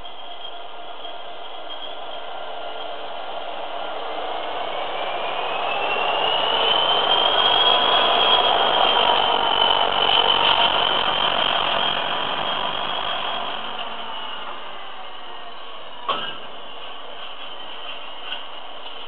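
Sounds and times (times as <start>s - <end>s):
diesel locomotive engine accelerating: 0.0s - 19.0s
high whine rising in pitch: 0.0s - 19.0s.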